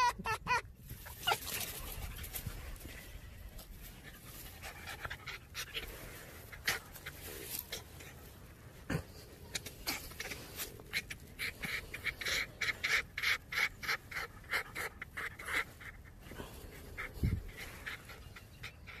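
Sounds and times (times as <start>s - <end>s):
fox making breathy huffs: 1.4s - 19.0s.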